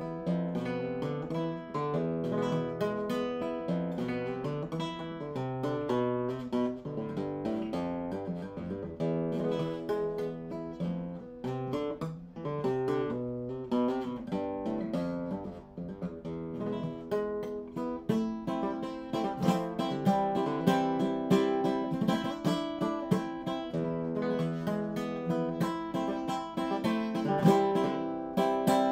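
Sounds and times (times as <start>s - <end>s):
acoustic guitar playing: 0.0s - 28.9s.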